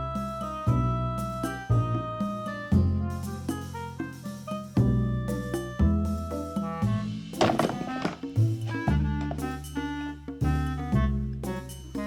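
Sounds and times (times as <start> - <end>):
light jazz music: 0.0 - 12.0.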